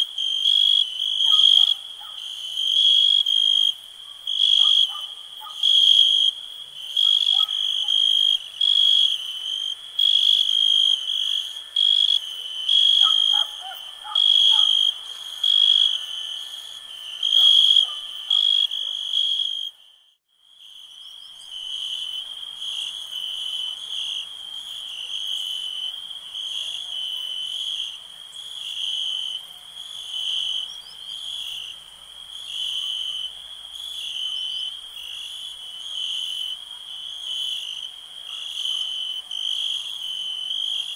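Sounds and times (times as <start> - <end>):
crickets chirping: 0.0 - 40.9
faint lower insect calls: 0.0 - 40.9.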